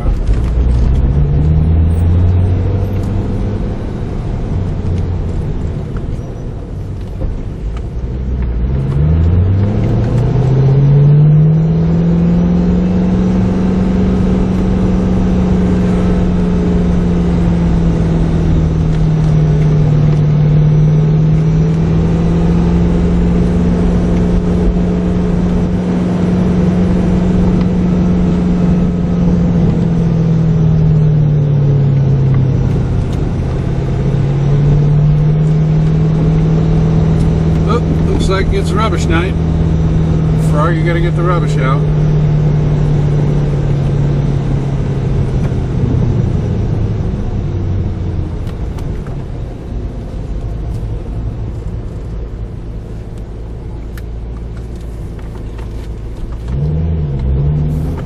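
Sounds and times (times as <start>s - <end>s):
car engine from inside cabin: 0.0s - 58.0s
road noise: 0.0s - 58.0s.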